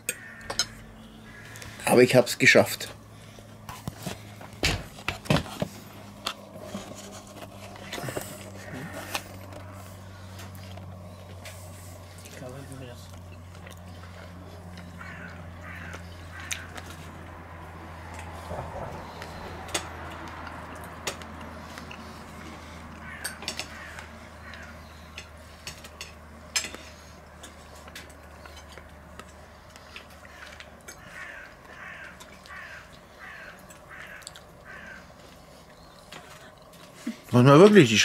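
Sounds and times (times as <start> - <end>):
man chewing fruit: 3.0 - 12.4, 13.0 - 37.3.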